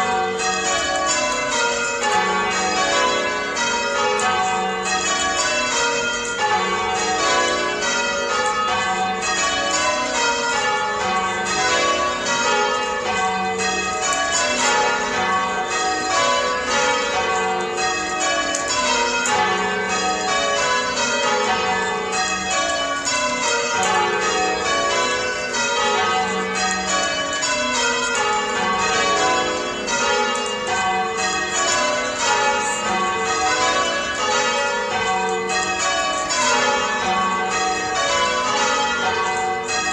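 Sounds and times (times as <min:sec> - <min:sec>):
church bells change-ringing: 0:00.0 - 0:39.9.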